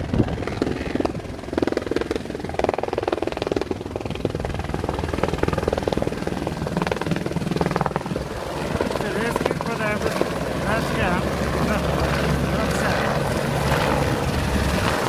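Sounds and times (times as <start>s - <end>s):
helicopter rotor blades chopping: 0.0s - 15.0s.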